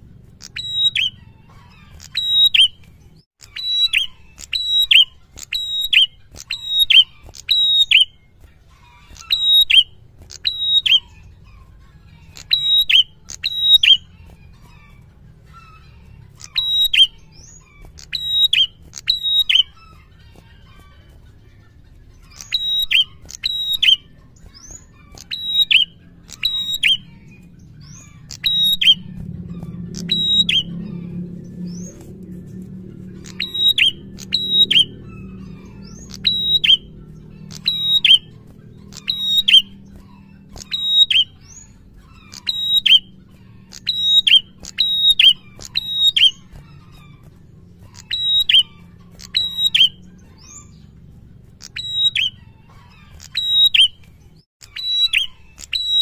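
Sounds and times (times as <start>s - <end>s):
tailorbird singing: 0.0s - 56.0s.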